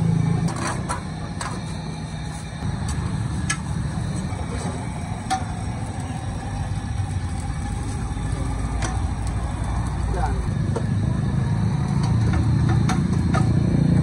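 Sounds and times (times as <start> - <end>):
gas burner roaring: 0.0 - 14.0.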